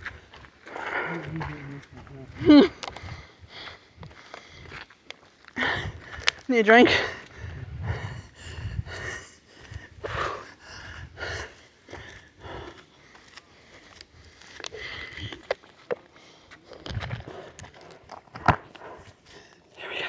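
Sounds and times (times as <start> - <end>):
heavy breathing: 0.6 - 4.9, 5.5 - 20.0.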